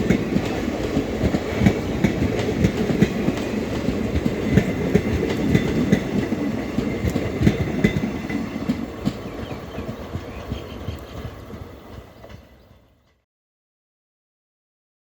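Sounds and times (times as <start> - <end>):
train wheels clattering over rail joints: 0.0 - 12.7.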